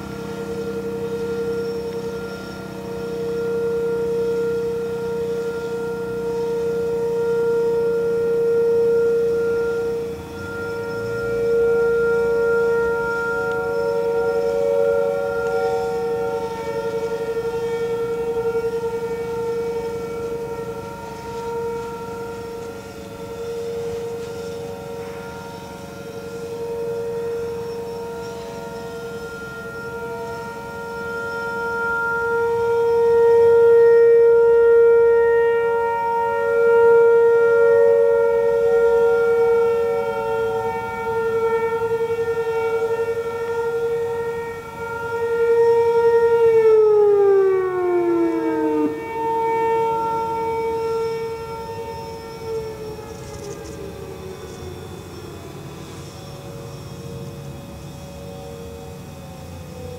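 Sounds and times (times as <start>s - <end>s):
warning sirens: 0.0s - 59.9s.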